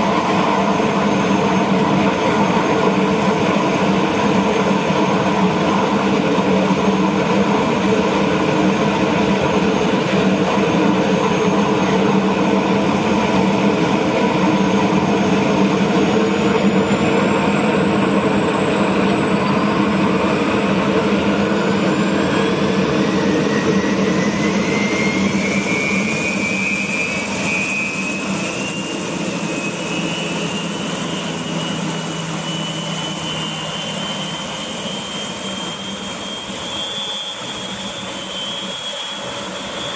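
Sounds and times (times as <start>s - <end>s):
helicopter engine drone: 0.0s - 39.9s
turbine whine rising in pitch: 0.0s - 39.9s.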